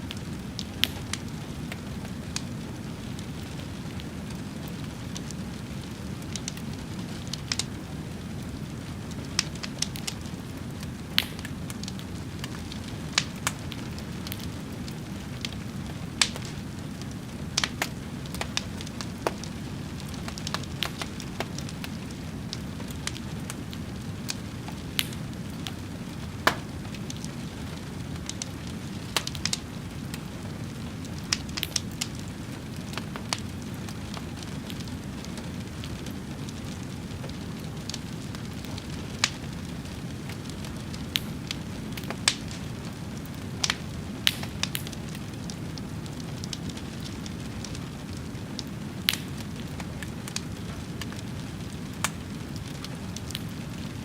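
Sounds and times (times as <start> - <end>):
fire popping and crackling: 0.0 - 54.0.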